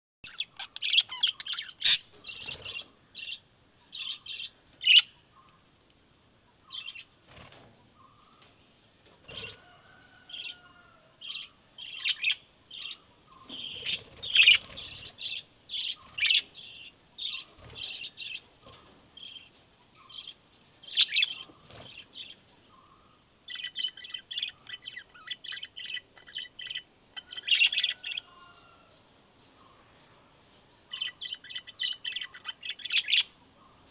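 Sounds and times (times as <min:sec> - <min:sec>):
lovebirds chirping: 0:00.2 - 0:33.9.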